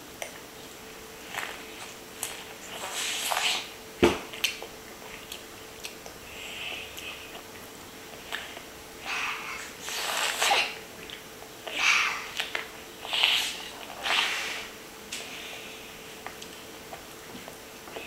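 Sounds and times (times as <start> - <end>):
child biting and chewing corn: 1.2 - 3.7, 4.3 - 18.0.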